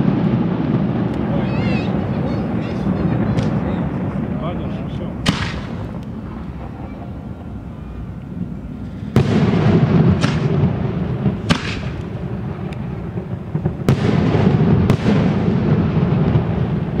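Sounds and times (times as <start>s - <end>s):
fireworks exploding: 0.0s - 17.0s
low rumble of echoes: 0.0s - 17.0s.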